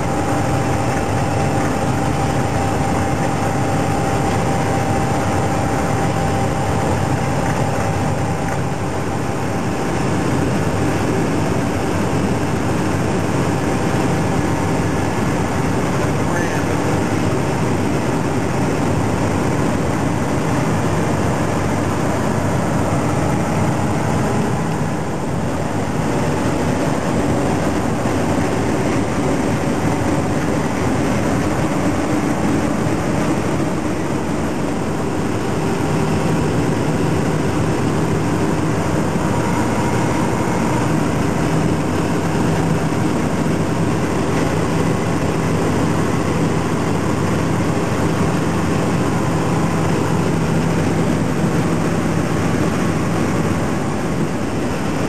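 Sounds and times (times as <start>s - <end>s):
road and wind noise: 0.0s - 55.0s
truck engine drone: 0.0s - 55.0s.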